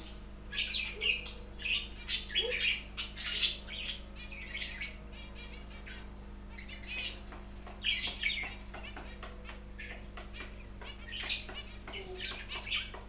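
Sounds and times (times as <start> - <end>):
budgerigars chirping and chattering: 0.0 - 13.0.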